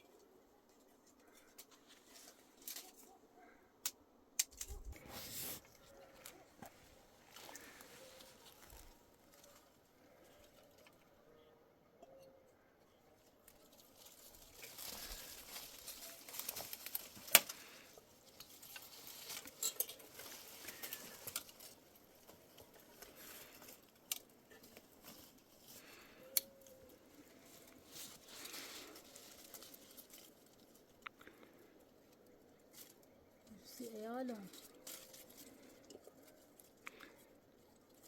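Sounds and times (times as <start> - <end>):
rustling and crinkling handling noise: 0.0 - 38.0.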